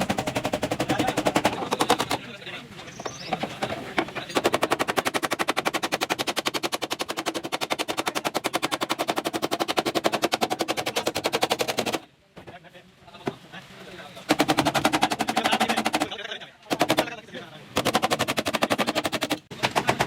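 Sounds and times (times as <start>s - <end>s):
power tool hammering rapidly: 0.0s - 2.2s, 3.5s - 12.0s, 14.3s - 20.0s.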